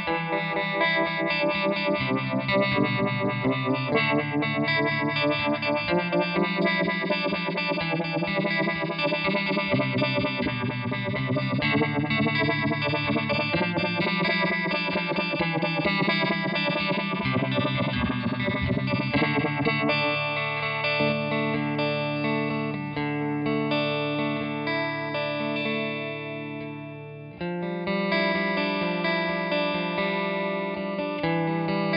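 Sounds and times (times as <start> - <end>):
electric guitar chords with vibrato: 0.0 - 31.9.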